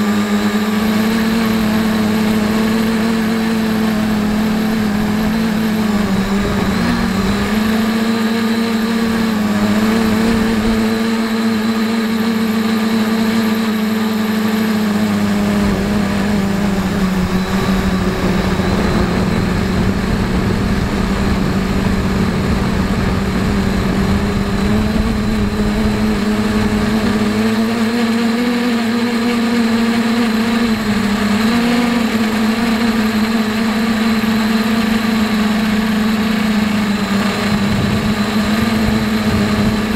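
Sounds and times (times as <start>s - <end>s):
quadcopter propellers buzzing: 0.0s - 39.9s
wind rumble on microphone: 0.6s - 11.7s, 15.2s - 28.4s, 29.8s - 39.9s.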